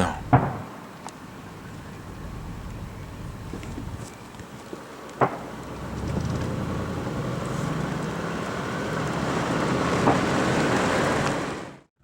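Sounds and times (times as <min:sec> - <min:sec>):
road and wind noise: 0:00.0 - 0:12.0
vehicle engine hum: 0:01.3 - 0:11.9.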